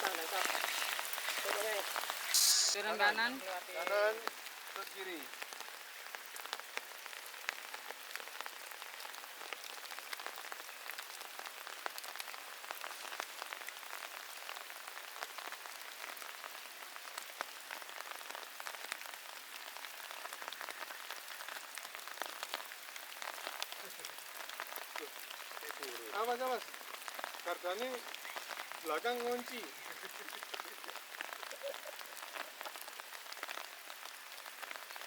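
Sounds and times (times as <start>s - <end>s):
rain falling: 0.0s - 35.0s
raindrops ticking: 0.0s - 35.0s.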